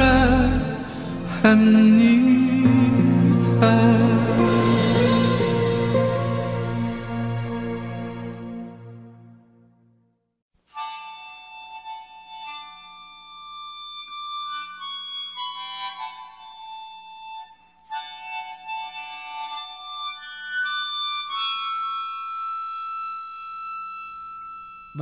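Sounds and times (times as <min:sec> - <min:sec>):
reedy held melody: 0:00.0 - 0:09.1, 0:11.0 - 0:25.0
instrumental ballad music: 0:00.0 - 0:09.5, 0:10.8 - 0:25.0.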